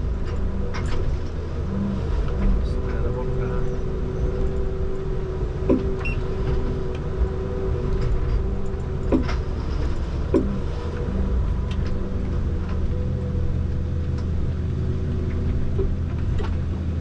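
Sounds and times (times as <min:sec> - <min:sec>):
engine running: 0:00.0 - 0:17.0
hydraulic whine: 0:00.0 - 0:17.0.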